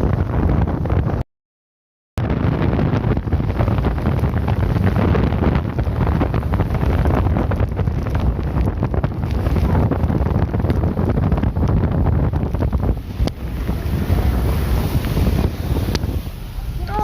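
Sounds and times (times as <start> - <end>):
wind buffeting microphone: 0.0 - 1.2, 2.2 - 17.0.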